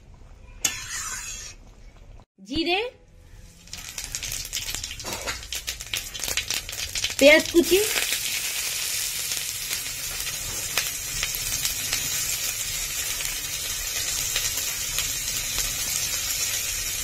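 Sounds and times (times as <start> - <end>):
onion sizzling in oil: 3.3 - 17.0.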